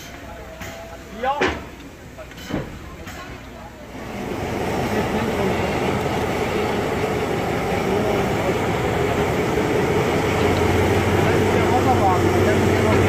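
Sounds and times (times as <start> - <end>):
machinery rumbling: 1.6 - 13.0.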